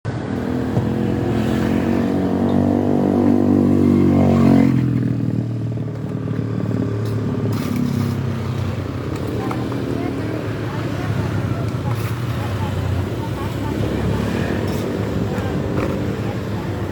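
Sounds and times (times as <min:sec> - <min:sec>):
engine running: 0:00.1 - 0:16.9.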